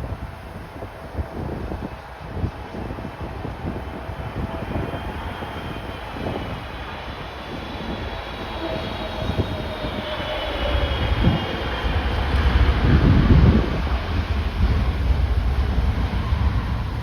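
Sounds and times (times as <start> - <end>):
jet engines whining: 0.0 - 17.0
wind buffeting microphone: 0.0 - 17.0.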